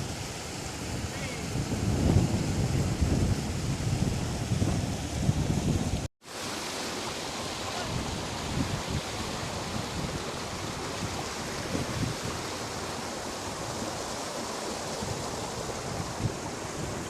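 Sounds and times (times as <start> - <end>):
waterfall rushing: 0.0 - 4.8, 5.7 - 17.0.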